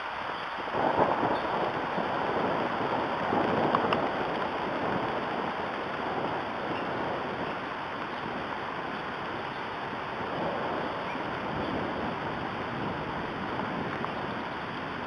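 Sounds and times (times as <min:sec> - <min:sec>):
steady rain on leaves: 0:00.0 - 0:15.0.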